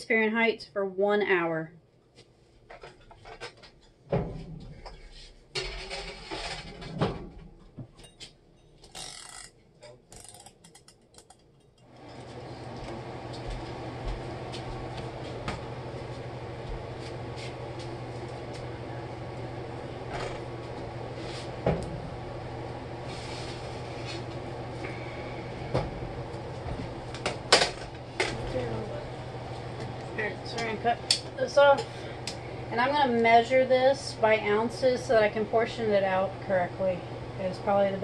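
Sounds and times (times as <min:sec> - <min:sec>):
window air conditioner humming: 0:00.0 - 0:38.0.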